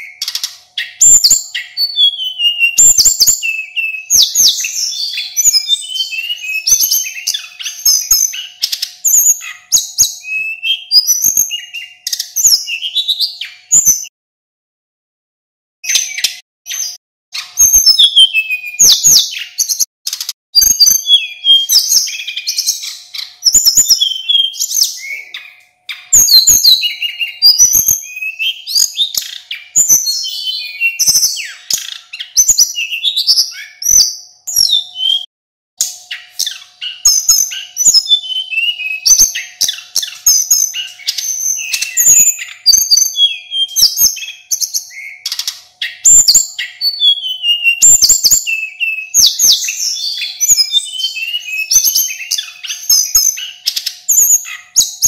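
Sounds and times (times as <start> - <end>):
flycatcher singing: 0.0 - 14.1, 15.9 - 55.0.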